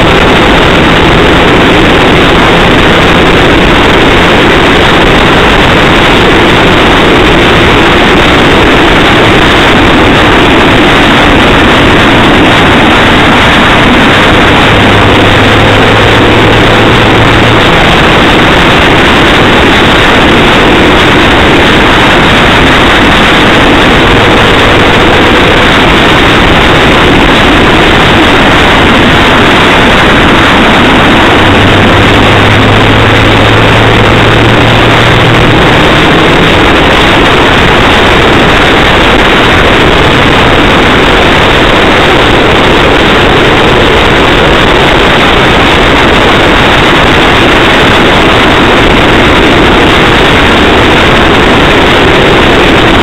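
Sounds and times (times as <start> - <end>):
low engine hum: 0.0 - 53.0
tyre and road noise: 0.0 - 53.0.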